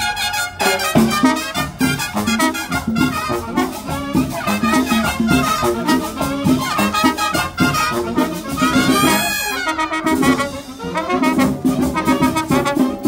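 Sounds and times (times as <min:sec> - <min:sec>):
marching band playing: 0:00.0 - 0:13.0
saxophones and trumpets: 0:00.0 - 0:13.0
steady drum beat: 0:00.8 - 0:13.0.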